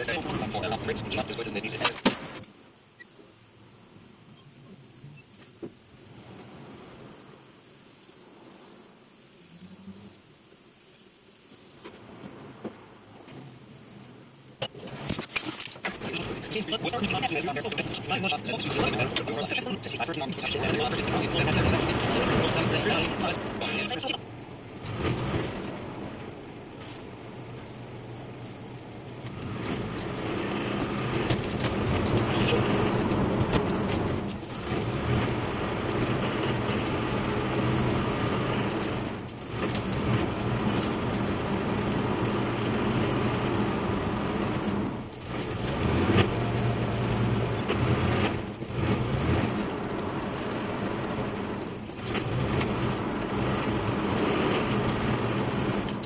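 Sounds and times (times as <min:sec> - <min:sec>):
car engine and tyre hum: 0:00.0 - 0:56.0.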